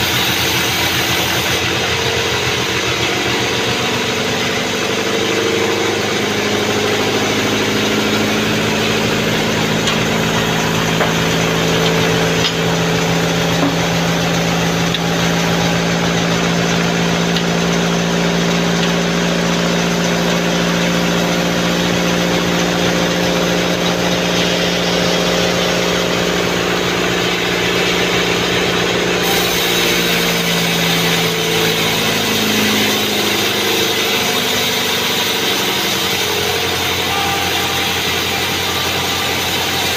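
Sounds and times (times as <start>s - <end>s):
band saw humming: 0.0s - 39.9s.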